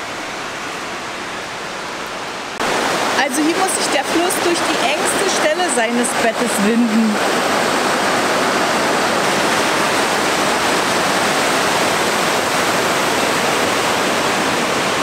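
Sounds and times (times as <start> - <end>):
river rushing over boulders: 0.0 - 15.0.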